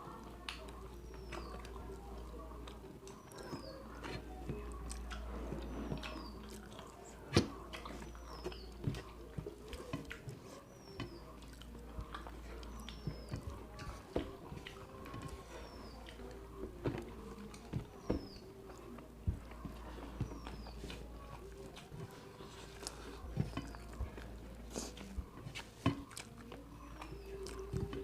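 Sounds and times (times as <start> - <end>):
chewing and eating: 0.0 - 28.0.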